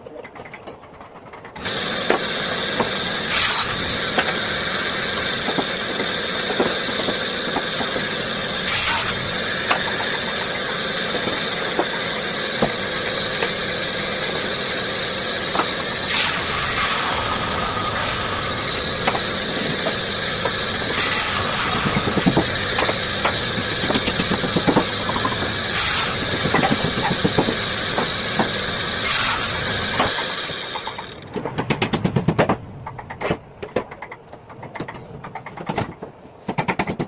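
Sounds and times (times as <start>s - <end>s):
table saw whine: 1.6s - 31.4s
saw blade cutting board: 1.6s - 31.5s.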